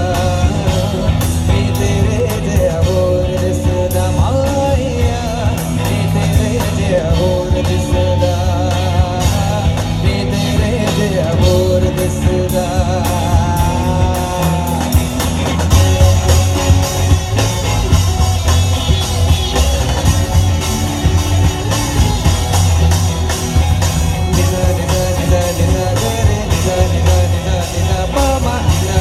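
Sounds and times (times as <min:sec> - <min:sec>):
person singing: 0:00.0 - 0:18.0, 0:19.0 - 0:29.0
live rock band: 0:00.0 - 0:29.0.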